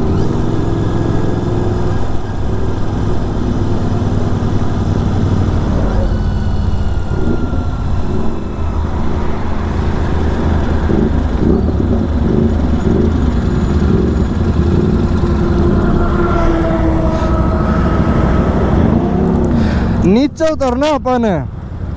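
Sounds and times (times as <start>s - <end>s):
motorcycle engine at speed: 0.0s - 21.9s.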